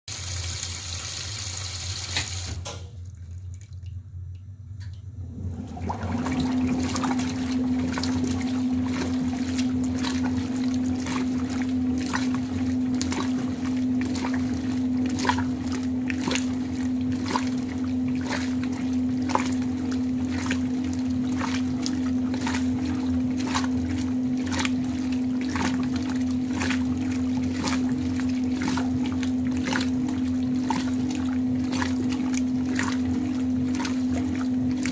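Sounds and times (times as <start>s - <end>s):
washing machine motor hum: 0.1s - 34.9s
water sloshing through towels: 2.3s - 34.9s.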